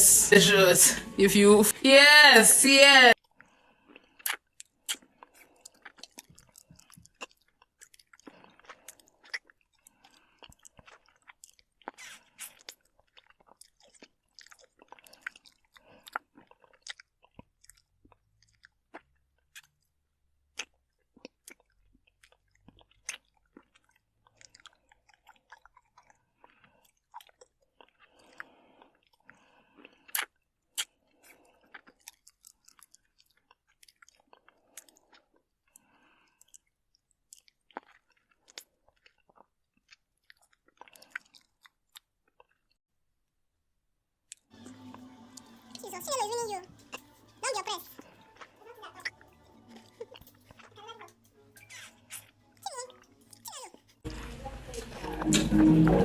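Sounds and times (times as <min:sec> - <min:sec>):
chewing and slurping: 0:03.3 - 0:19.9, 0:20.5 - 0:42.8, 0:44.3 - 0:56.0.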